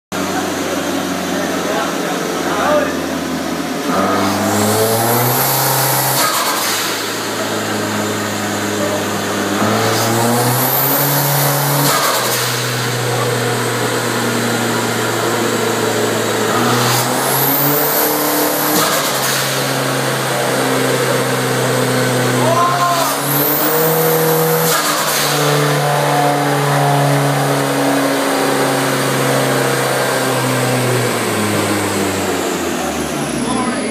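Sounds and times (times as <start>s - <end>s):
car engine revving: 0.1s - 33.9s.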